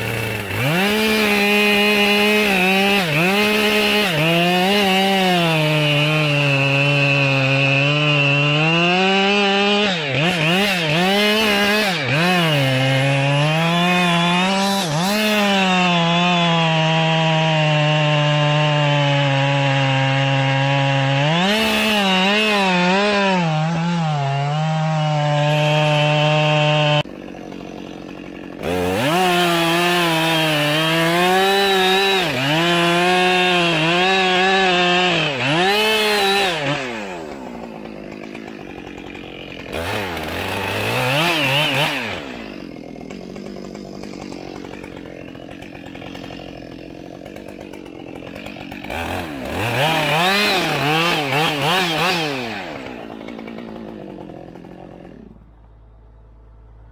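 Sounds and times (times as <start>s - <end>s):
chainsaw cutting and idling: 0.0s - 56.9s.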